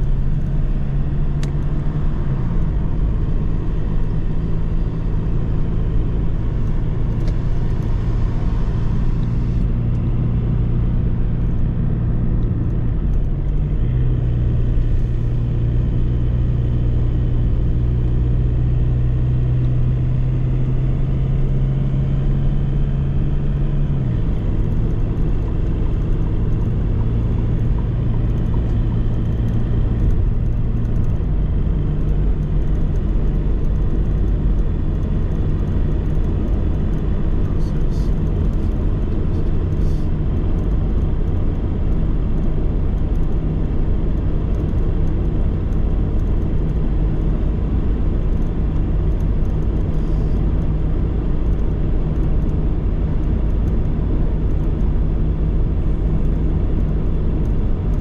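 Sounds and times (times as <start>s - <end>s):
road noise: 0.0s - 58.0s
van engine running: 0.0s - 58.0s.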